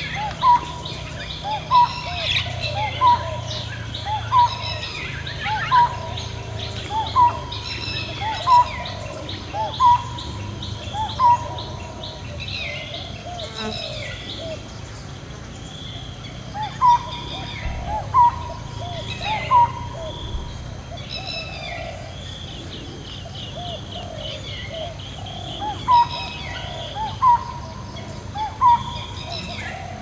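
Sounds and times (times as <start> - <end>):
birds chirping and twittering: 0.0 - 30.0.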